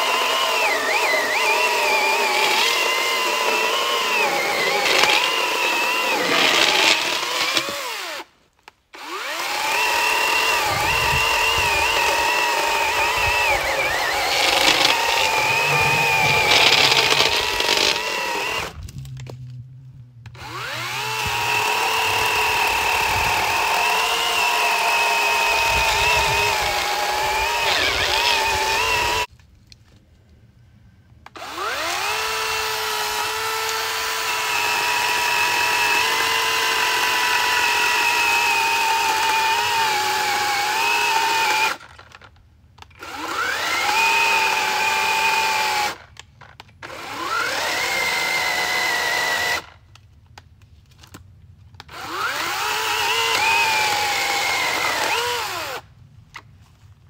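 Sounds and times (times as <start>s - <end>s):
electric chainsaw cutting log: 0.0s - 8.3s, 8.9s - 18.8s, 20.2s - 29.3s, 31.3s - 42.1s, 43.0s - 46.0s, 46.9s - 49.8s, 51.8s - 55.8s.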